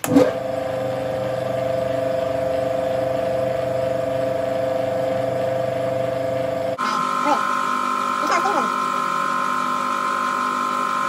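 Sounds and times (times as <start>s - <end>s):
metal lathe whining: 0.0s - 11.0s.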